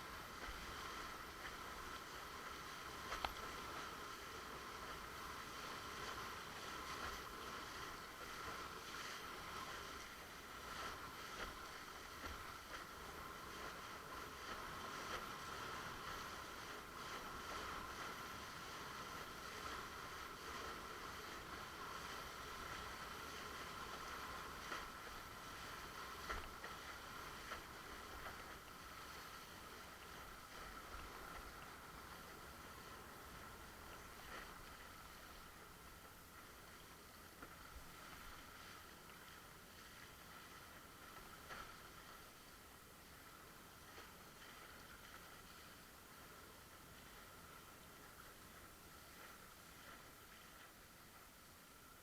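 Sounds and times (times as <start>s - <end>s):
water rushing along board: 0.0s - 52.0s.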